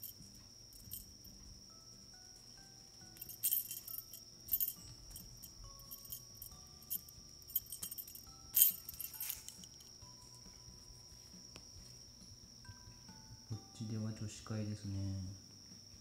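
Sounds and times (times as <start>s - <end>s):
small bell jingling: 0.0s - 14.0s.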